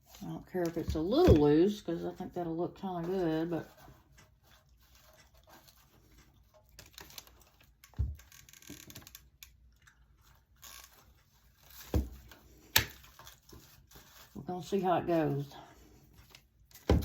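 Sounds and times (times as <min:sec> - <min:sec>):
raffia rustling and crackling: 0:00.0 - 0:17.0.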